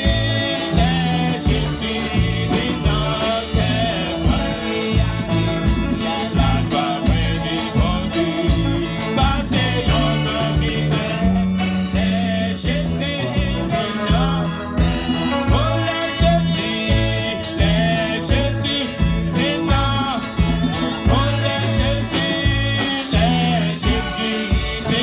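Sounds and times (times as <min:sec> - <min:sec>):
instrumental accompaniment with beat: 0:00.0 - 0:25.0.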